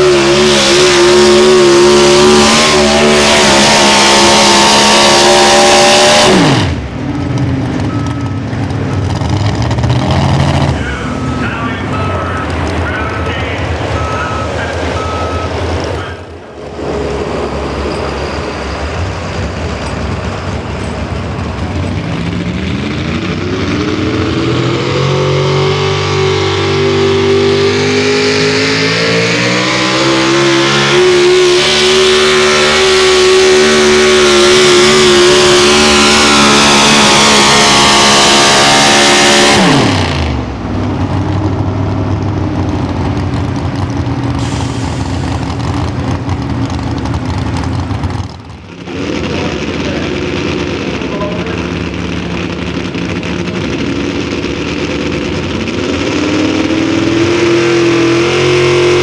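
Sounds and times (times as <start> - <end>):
pulling engine running hard: 0.0 - 59.0.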